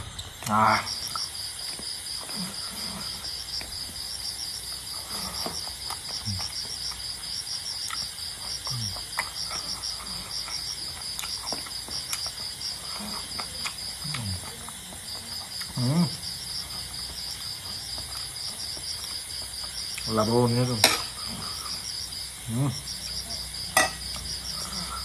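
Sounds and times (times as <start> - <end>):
crickets chirping: 0.0 - 25.0
man eating with fingers: 0.2 - 25.0.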